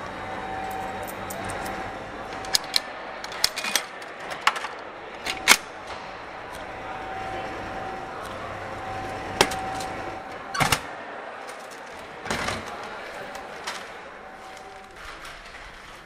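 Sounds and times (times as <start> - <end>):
vending machine hum: 0.0 - 16.0.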